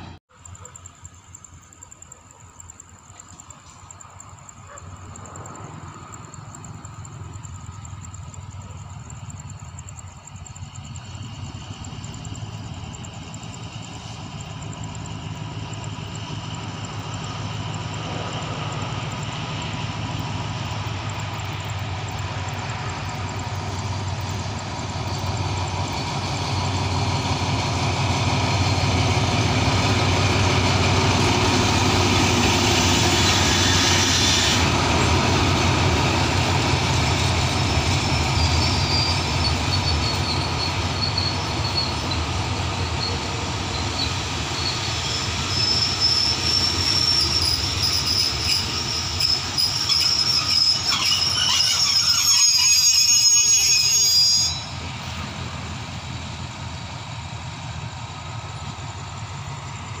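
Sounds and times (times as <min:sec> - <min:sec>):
train rumble: 0:00.0 - 1:00.0
wheel and brake squeal: 0:06.2 - 0:35.4, 0:36.0 - 0:55.3.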